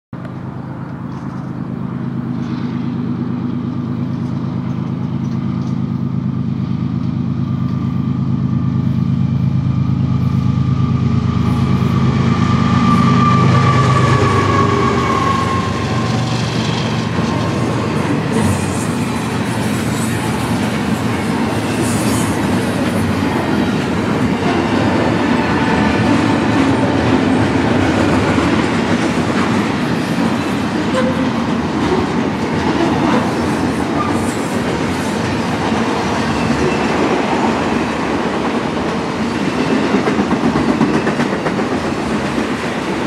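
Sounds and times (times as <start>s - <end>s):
diesel locomotive engine drone: 0.2s - 43.0s.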